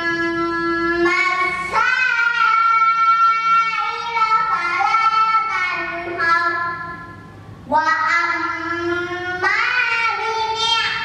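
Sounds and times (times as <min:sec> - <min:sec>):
girl chanting recitation: 0:00.0 - 0:11.0.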